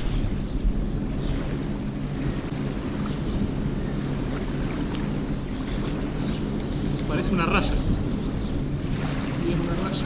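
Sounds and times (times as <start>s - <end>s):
low motor drone: 0.0s - 10.0s
wind noise: 0.0s - 10.0s.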